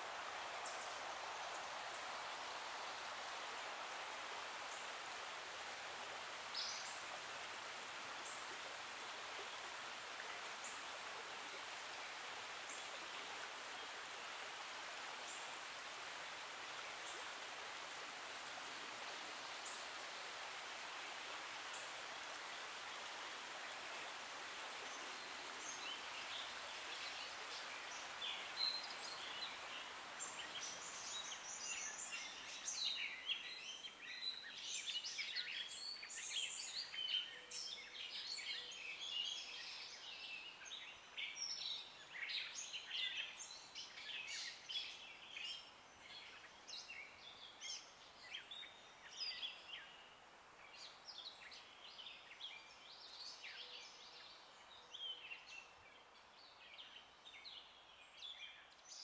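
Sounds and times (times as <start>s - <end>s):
songbirds chirping: 0.0s - 59.0s
stream hissing softly: 0.0s - 59.0s.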